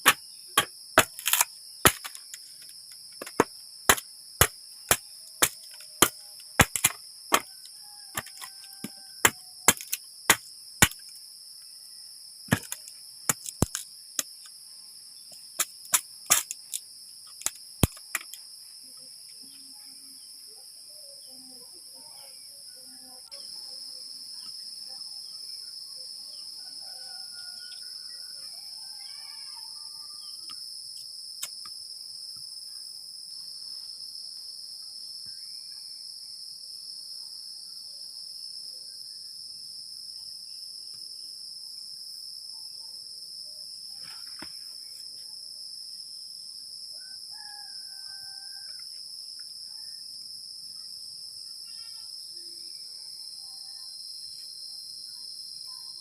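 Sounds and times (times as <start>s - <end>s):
forest insects chorus: 0.0s - 56.0s.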